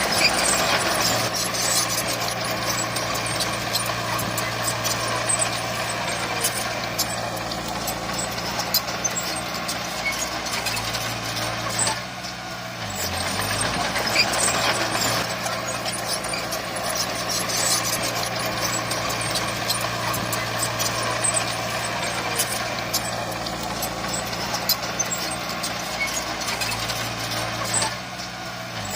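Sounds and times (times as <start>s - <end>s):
diesel engine of heavy machinery: 0.0s - 28.9s.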